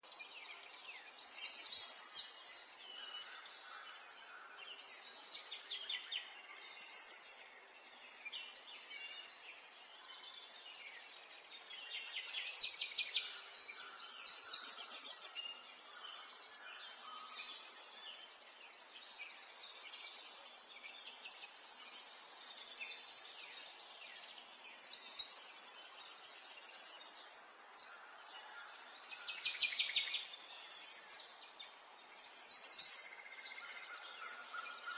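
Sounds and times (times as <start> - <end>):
faint outdoor background noise: 0.0 - 34.9
songbirds chirping and trilling: 0.0 - 34.9.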